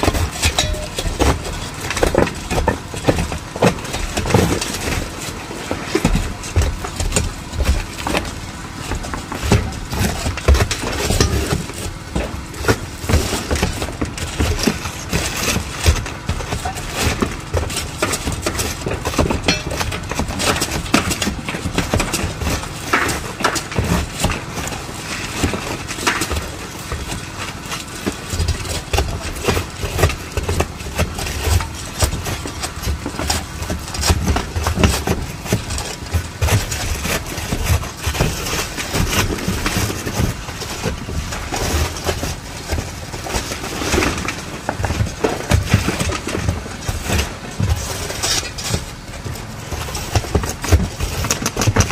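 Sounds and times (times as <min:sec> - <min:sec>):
knocking and scraping of shingles: 0:00.0 - 0:51.9.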